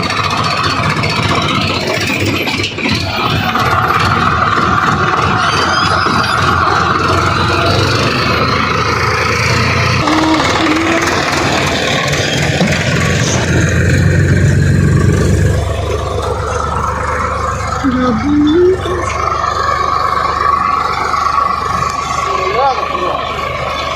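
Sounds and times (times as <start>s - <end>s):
tractor diesel engine running: 0.0s - 23.9s.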